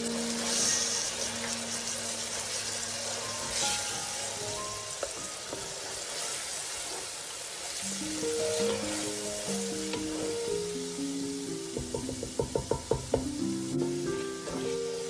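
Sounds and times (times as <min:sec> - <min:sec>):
background music: 0:00.0 - 0:06.0, 0:07.8 - 0:15.0
onions and tomato sizzling in a pan: 0:00.0 - 0:15.0.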